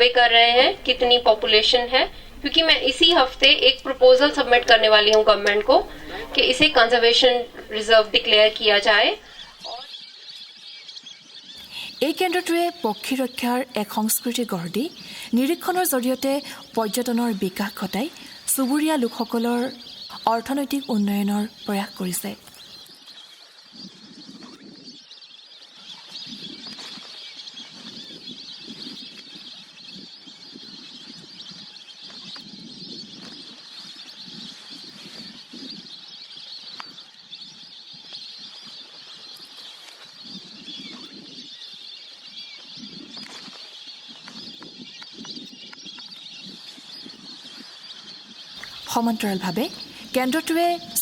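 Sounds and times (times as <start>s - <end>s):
flock of waterbirds calling: 0.0s - 51.0s.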